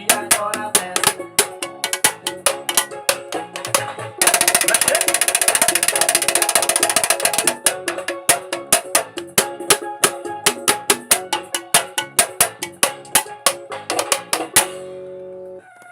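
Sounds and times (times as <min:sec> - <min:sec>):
sharp percussion strikes: 0:00.0 - 0:15.0
held keyboard chords: 0:00.0 - 0:15.6.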